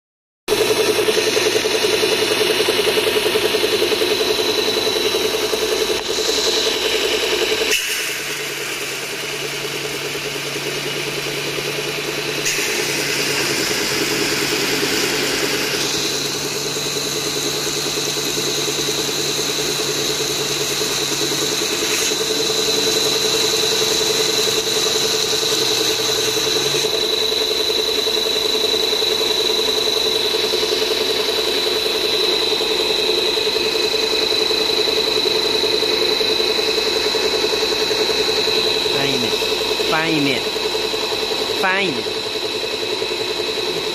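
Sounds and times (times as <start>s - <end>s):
belt sanding machine running: 0.5s - 43.9s.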